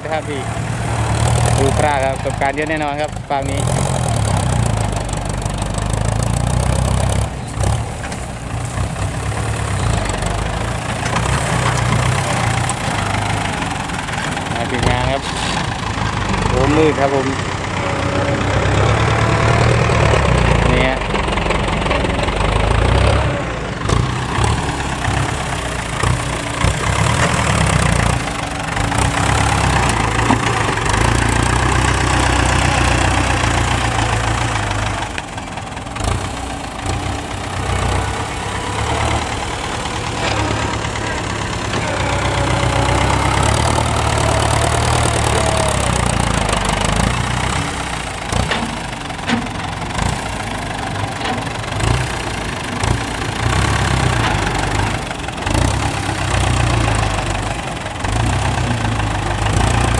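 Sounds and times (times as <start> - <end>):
large diesel engine rumbling: 0.0 - 59.9.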